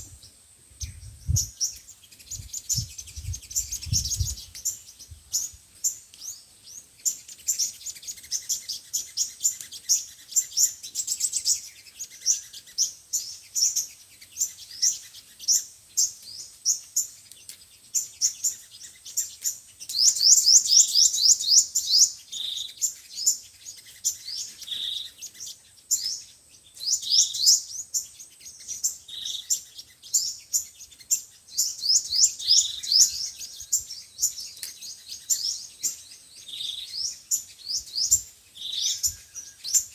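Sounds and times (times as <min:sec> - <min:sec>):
sunbirds chirping and twittering: 0:00.0 - 0:39.9.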